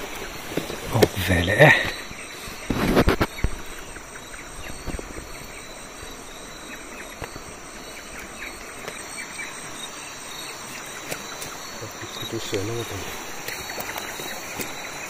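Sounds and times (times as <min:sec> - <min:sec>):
faint chirps: 0:00.0 - 0:15.0
riverside background hiss: 0:00.0 - 0:15.0.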